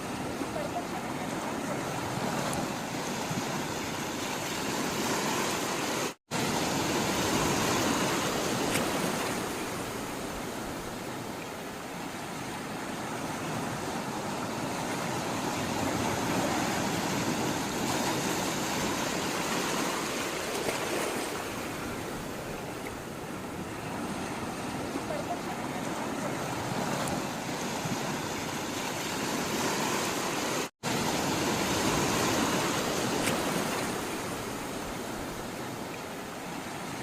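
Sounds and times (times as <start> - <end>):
sea water rushing: 0.0 - 37.0.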